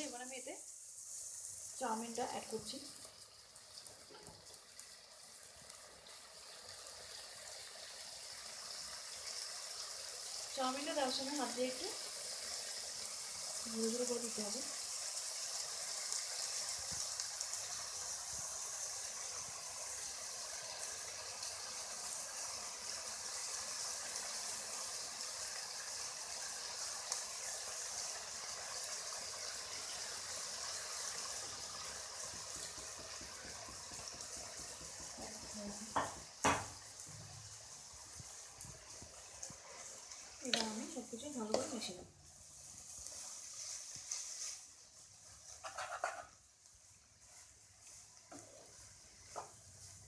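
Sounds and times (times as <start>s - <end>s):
food sizzling in a hot pan: 0.0s - 50.0s.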